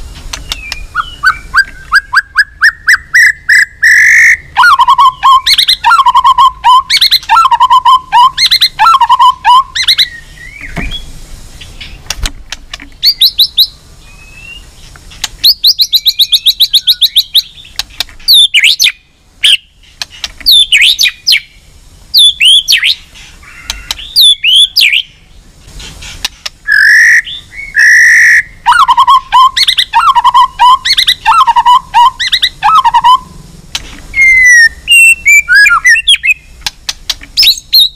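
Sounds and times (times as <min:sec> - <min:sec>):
bird fast trill: 0:00.0 - 0:12.0, 0:13.0 - 0:33.4, 0:34.1 - 0:36.6, 0:37.4 - 0:37.9
songbird whistled phrases: 0:00.4 - 0:12.0, 0:13.0 - 0:14.8, 0:15.4 - 0:19.7, 0:20.5 - 0:25.2, 0:26.6 - 0:33.3, 0:34.1 - 0:36.5, 0:37.4 - 0:37.9.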